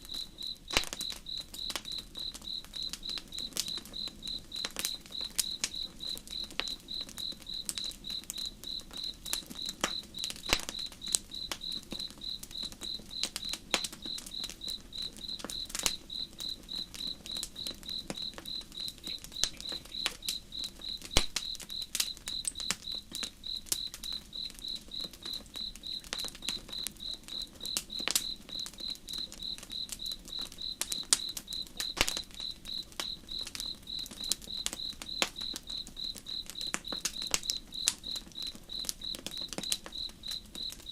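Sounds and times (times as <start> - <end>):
campfire crackling and popping: 0.0 - 40.9
cricket chirping: 0.0 - 40.9.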